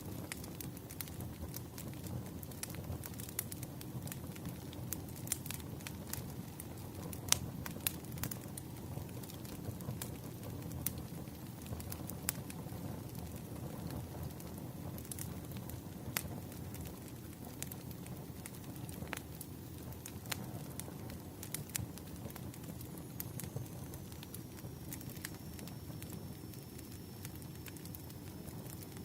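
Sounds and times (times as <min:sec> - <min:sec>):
burning logs crackling and popping: 0:00.0 - 0:29.0
campfire flames rushing: 0:00.0 - 0:29.0.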